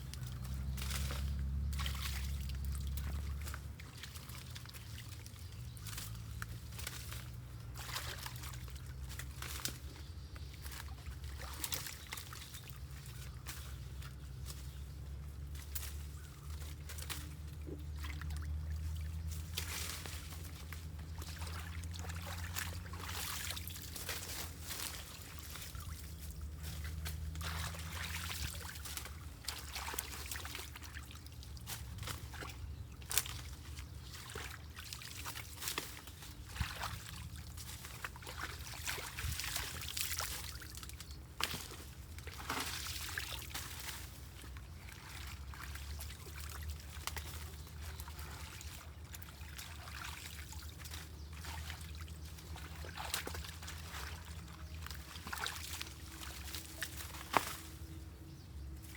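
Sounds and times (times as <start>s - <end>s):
floodwater pouring and splashing: 0.0s - 58.9s
steady low rumble: 0.0s - 58.9s.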